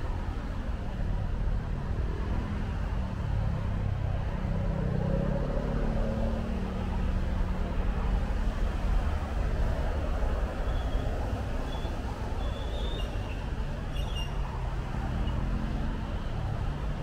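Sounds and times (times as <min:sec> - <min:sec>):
traffic on wet roads: 0:00.0 - 0:17.0.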